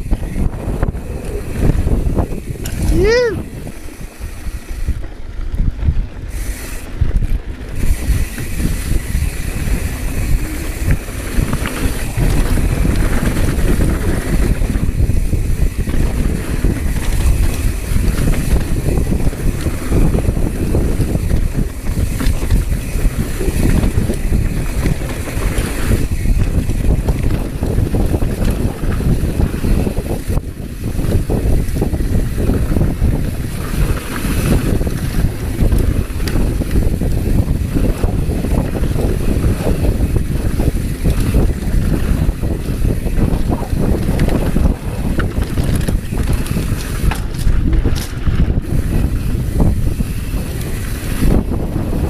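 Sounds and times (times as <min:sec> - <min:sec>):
mountain bike rumbling and jolting: 0:00.0 - 0:52.0
wind buffeting microphone: 0:00.0 - 0:52.0.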